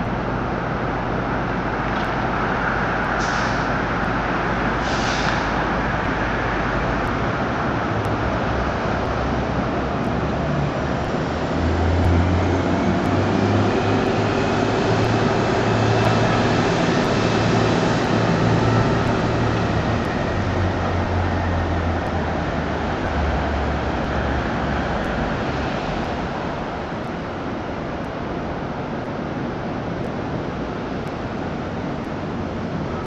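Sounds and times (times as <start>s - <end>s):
city street traffic: 0.0s - 33.0s
low engine hum: 0.0s - 33.0s.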